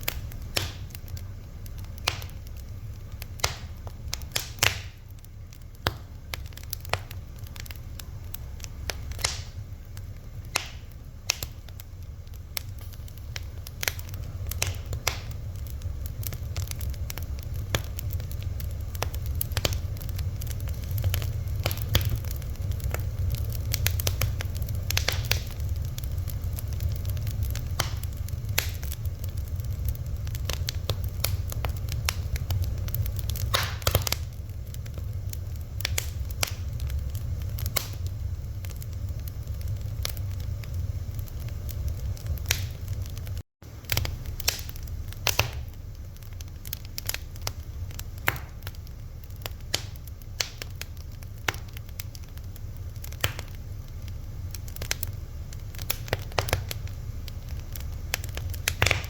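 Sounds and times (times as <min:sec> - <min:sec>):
fire pops and snaps: 0:00.0 - 0:59.0
low rumble of flames: 0:00.0 - 0:59.0.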